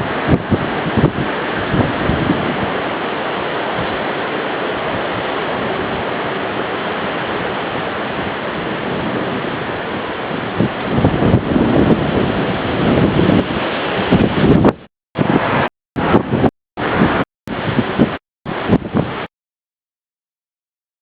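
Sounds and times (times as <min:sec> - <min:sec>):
steady rushing noise: 0:00.0 - 0:19.3.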